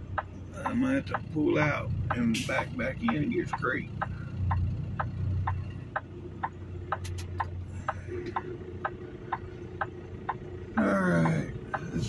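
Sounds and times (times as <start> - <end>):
diesel engine idling: 0.0 - 12.0
truck flasher clicking: 0.0 - 12.0.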